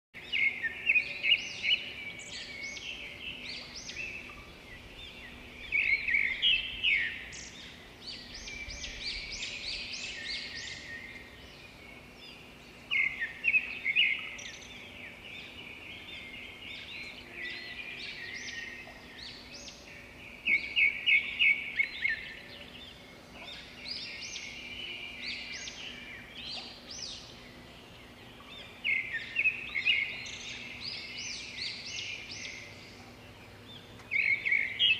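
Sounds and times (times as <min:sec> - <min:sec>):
faint steady hum: 0:00.2 - 0:34.9
small birds chirping: 0:00.2 - 0:34.9.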